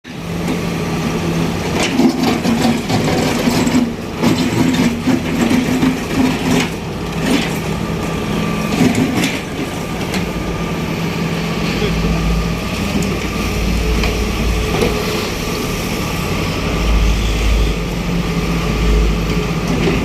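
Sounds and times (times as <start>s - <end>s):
diesel engine running: 0.1s - 20.0s.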